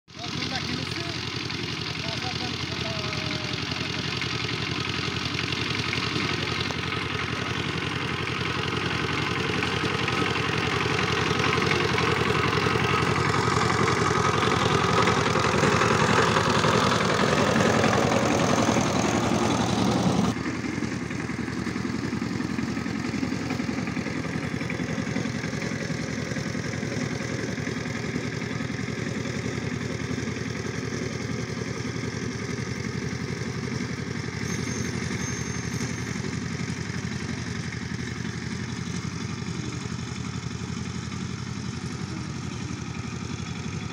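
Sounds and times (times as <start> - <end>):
diesel engine running under load: 0.1 - 43.9.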